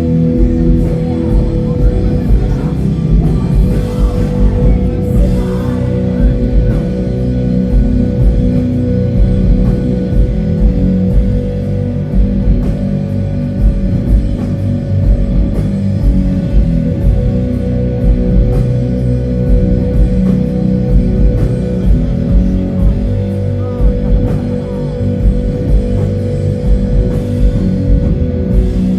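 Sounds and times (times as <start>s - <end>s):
doom metal band playing live: 0.0s - 28.9s.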